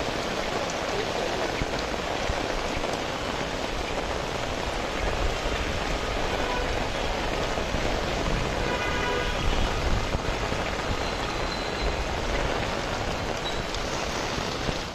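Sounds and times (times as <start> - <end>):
rain on wet street: 0.0 - 14.9.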